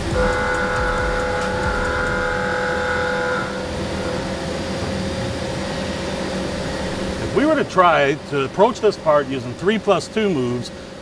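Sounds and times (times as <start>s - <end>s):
high cutting whine: 0.0s - 11.0s
machine running hum: 0.0s - 11.0s.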